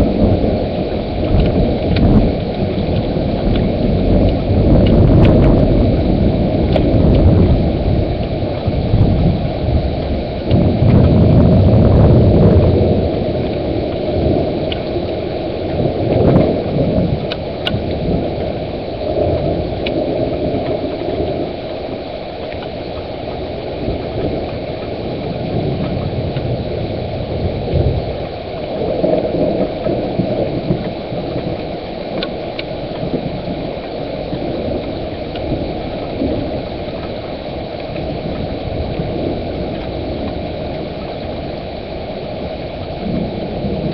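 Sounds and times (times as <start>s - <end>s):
thunder rumble: 0.0s - 43.9s
wind and rain rushing: 0.0s - 43.9s.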